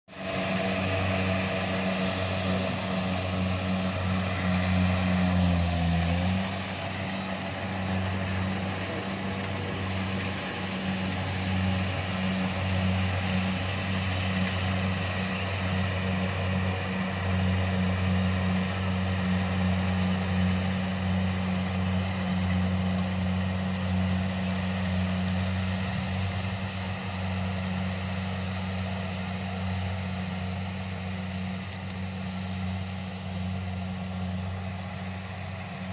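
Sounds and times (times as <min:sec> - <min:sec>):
combine harvester engine humming: 0:00.1 - 0:35.9.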